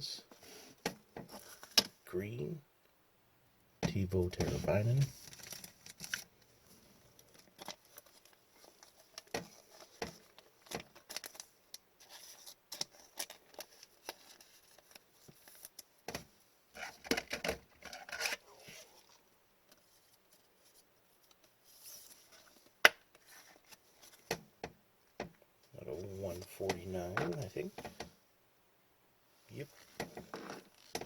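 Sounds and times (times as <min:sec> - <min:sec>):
plastic sleeves rustling: 0:00.3 - 0:02.0, 0:03.9 - 0:24.5, 0:25.7 - 0:28.1, 0:29.5 - 0:31.0.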